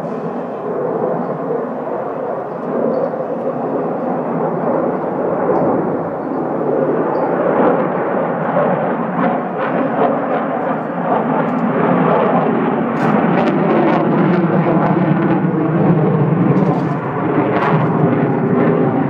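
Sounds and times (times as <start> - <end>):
jet engine rumble with crackles: 0.0 - 19.0.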